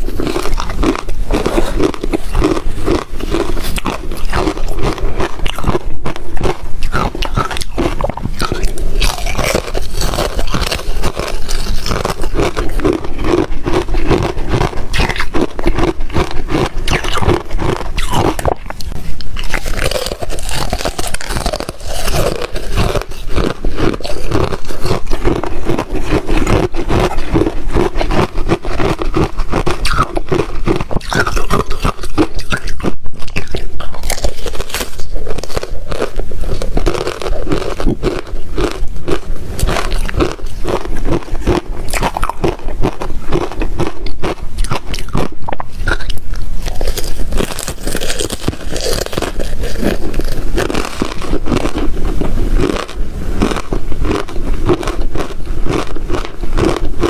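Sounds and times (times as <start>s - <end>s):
crunching and chewing ice: 0.0s - 57.0s.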